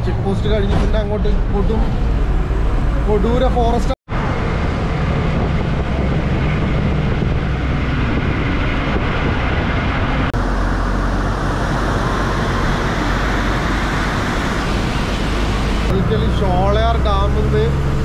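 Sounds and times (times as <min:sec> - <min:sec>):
bus engine and road noise: 0:00.0 - 0:18.0
deep rumble: 0:00.0 - 0:18.0.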